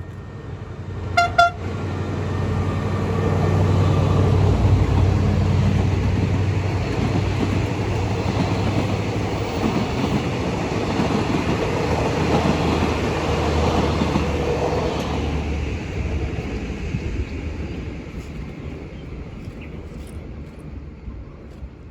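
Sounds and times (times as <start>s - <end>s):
locomotive engine drone: 0.0s - 21.7s
train wheels on rails: 0.0s - 21.9s.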